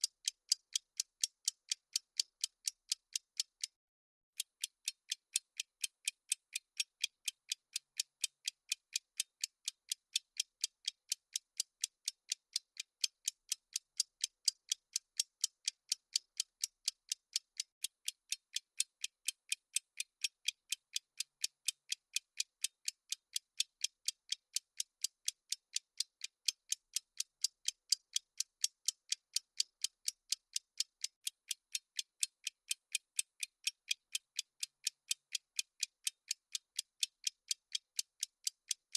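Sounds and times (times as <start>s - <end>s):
clock ticking: 0.0s - 3.7s, 4.4s - 38.9s.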